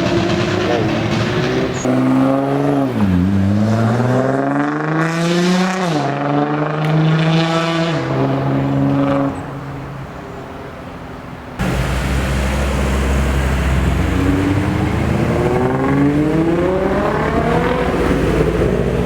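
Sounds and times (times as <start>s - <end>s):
car engine revving: 0.0s - 9.8s, 11.6s - 19.0s.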